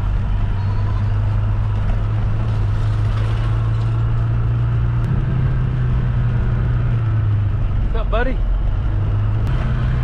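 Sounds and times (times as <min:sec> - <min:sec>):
car engine drone: 0:00.0 - 0:10.0
road noise: 0:00.0 - 0:10.0.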